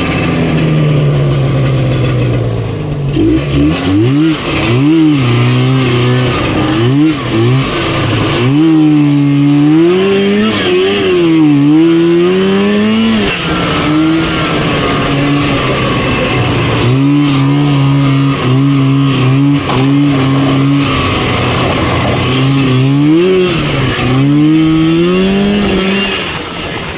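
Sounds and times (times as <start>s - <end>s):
snowmobile engine revving: 0.0s - 26.9s.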